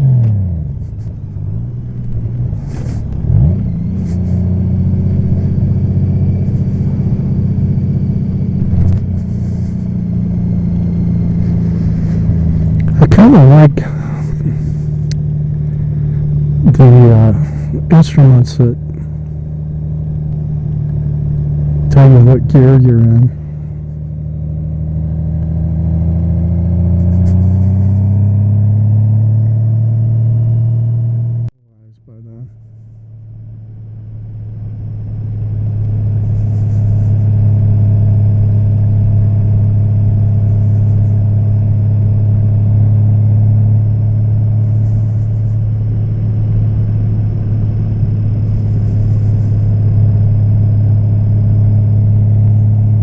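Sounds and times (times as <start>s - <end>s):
motorcycle engine running: 0.0s - 31.5s, 32.5s - 53.0s.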